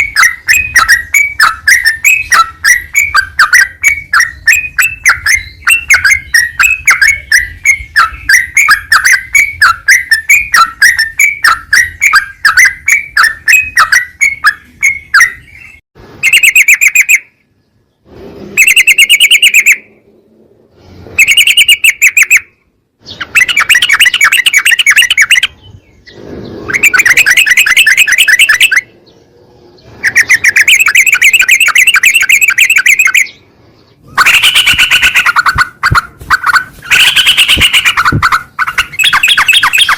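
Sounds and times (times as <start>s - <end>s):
bulbul song: 0.0s - 17.8s, 18.6s - 20.0s, 21.1s - 39.9s.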